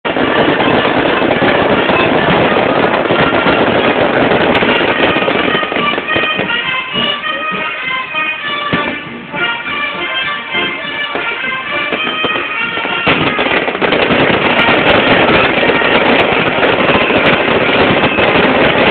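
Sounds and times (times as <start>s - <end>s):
fireworks crackling: 0.0s - 18.9s
wind band playing: 0.1s - 18.9s.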